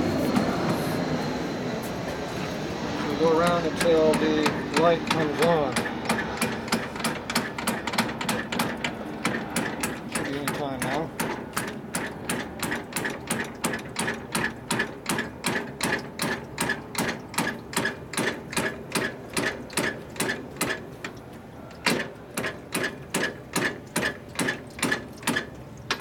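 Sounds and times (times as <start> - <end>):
engine clicking turned by hand: 3.2 - 26.0.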